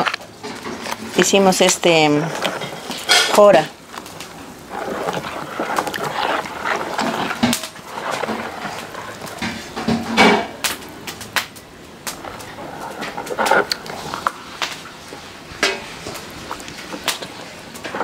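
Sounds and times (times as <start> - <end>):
spoon stirring slurry in bowl: 0.6 - 10.4, 12.2 - 18.0.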